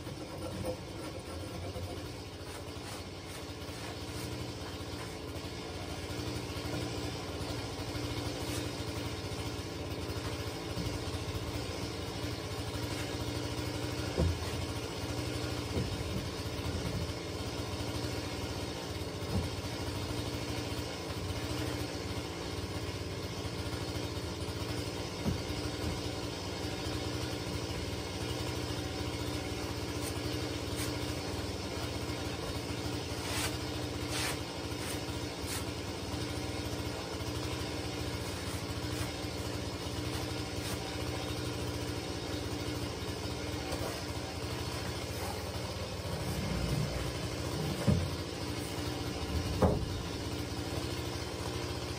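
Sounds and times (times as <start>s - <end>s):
small engine idling: 0.0s - 51.9s.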